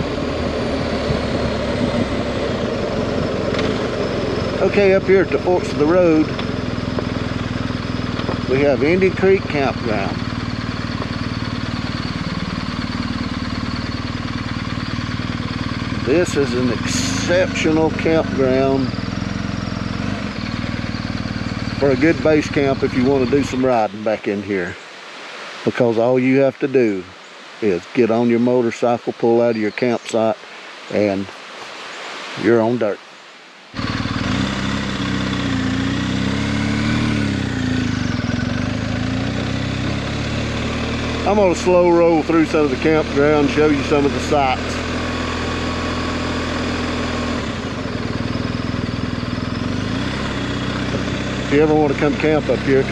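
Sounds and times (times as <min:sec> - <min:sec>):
motorcycle engine idling: 0:00.0 - 0:25.0, 0:33.7 - 0:52.9.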